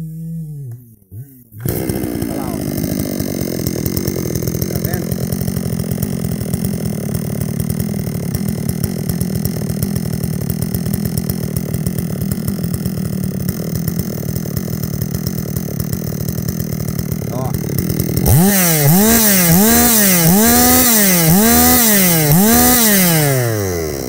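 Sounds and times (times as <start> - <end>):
chainsaw engine idling: 0.0 - 24.0.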